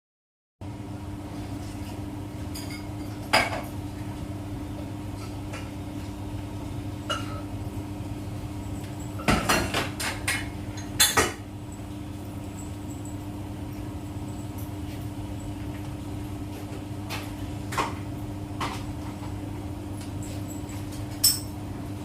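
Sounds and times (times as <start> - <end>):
washing machine humming: 0.6 - 22.0.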